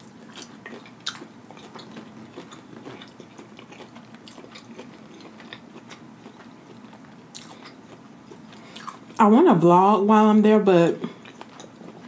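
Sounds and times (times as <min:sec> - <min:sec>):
person chewing food: 0:00.0 - 0:09.2, 0:11.1 - 0:12.0.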